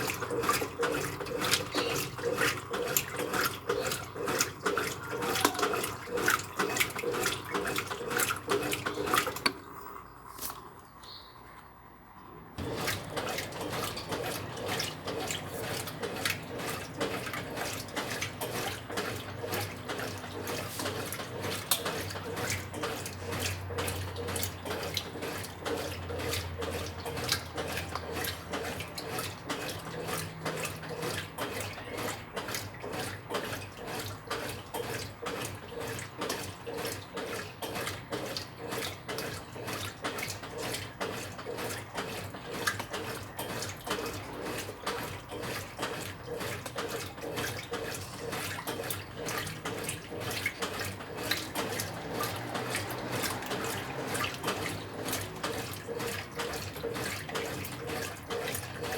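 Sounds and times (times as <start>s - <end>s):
low motor hum: 0.0s - 58.9s
washing machine water churning: 0.0s - 58.9s.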